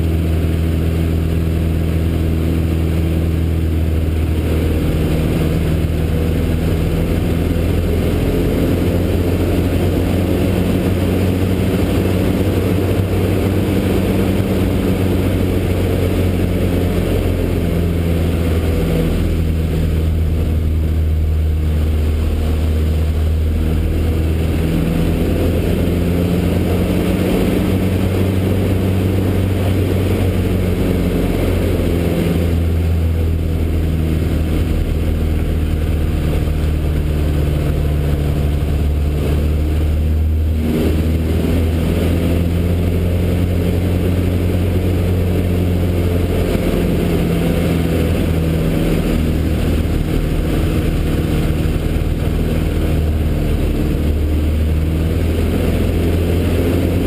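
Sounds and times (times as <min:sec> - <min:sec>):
aircraft engine and propeller drone: 0:00.0 - 0:57.0
rushing airflow: 0:00.0 - 0:57.0.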